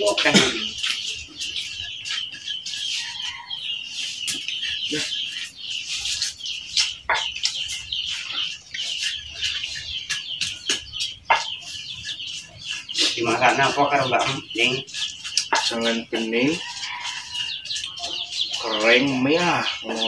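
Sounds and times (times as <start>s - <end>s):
chickens clucking: 0.0s - 20.0s
small birds chirping: 0.0s - 20.0s.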